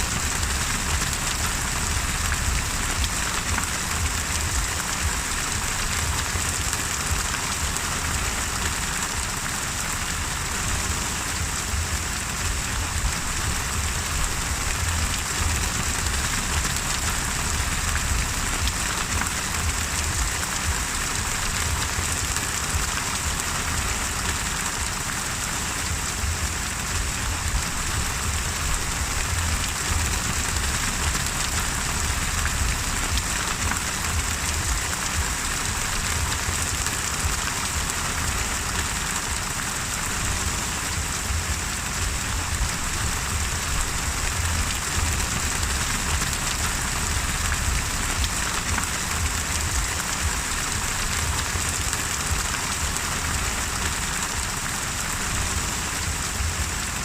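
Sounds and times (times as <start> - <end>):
continuous low rumble: 0.0 - 57.0
heavy rain hissing: 0.0 - 57.0.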